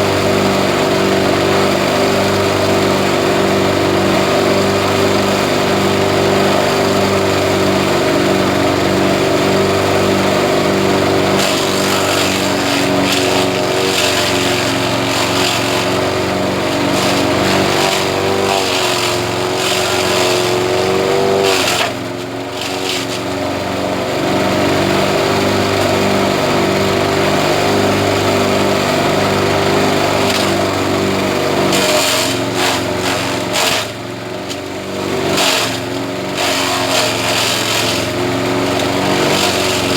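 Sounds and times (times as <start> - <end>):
grass chopper engine running: 0.0 - 39.9.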